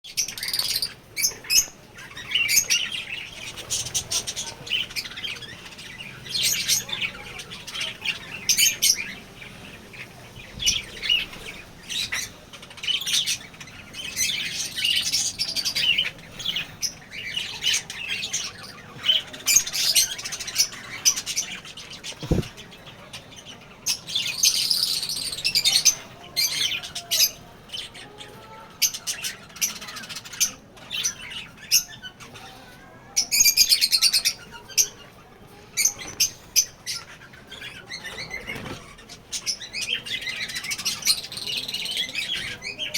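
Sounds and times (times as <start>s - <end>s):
lovebirds chattering and squawking: 0.0s - 42.9s.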